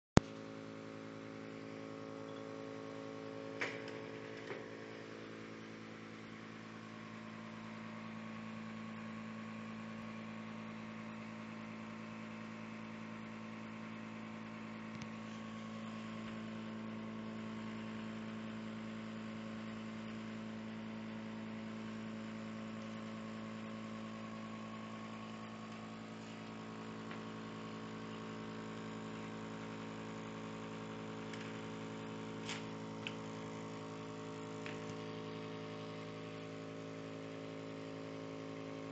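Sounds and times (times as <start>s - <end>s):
vacuum pump humming: 0.2s - 38.9s.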